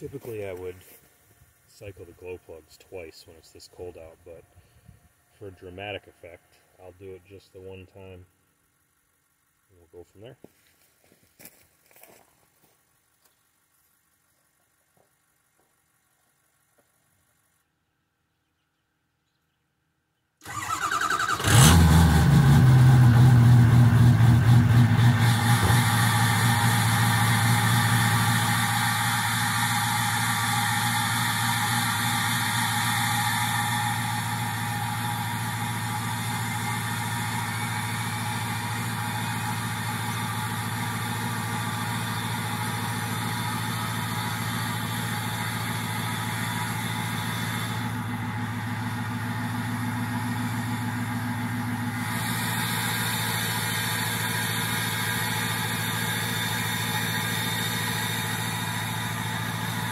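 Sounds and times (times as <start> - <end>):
diesel engine idling: 0.0 - 10.4, 20.4 - 59.9.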